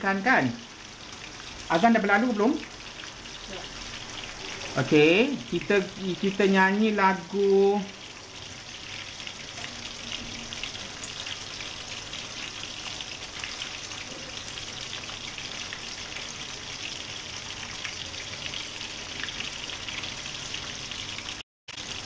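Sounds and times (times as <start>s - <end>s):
fish deep-frying in oil: 0.0s - 22.0s.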